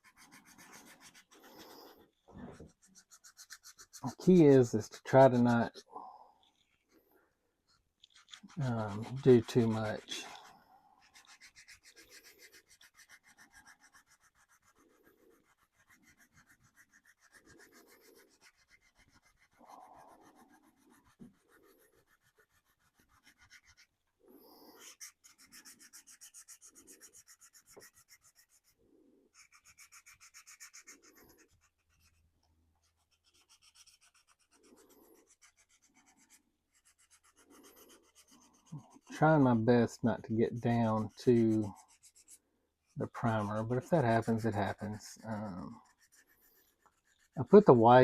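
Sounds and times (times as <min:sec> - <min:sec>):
sandpaper rubbing on plastic: 0:00.0 - 0:06.9, 0:07.7 - 0:48.0.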